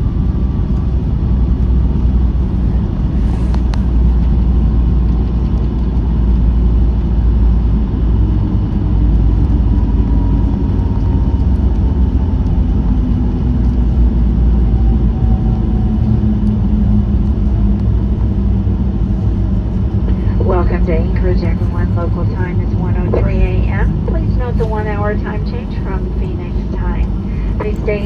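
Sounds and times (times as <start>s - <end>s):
aircraft cabin rumble: 0.0s - 28.0s
faint jet engine whine: 0.0s - 28.0s.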